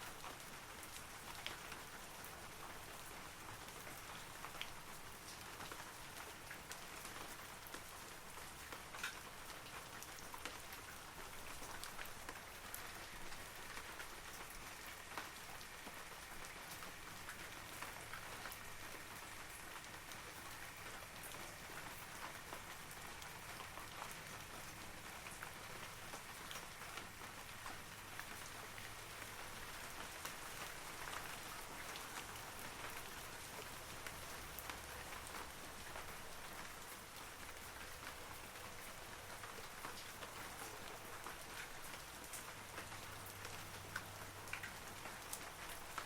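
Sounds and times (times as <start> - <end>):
rain falling on trees: 0.0 - 46.0.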